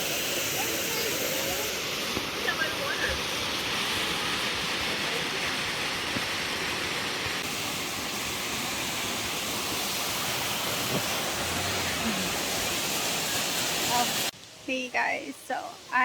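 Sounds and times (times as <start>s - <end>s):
waterfall pouring: 0.0s - 14.4s.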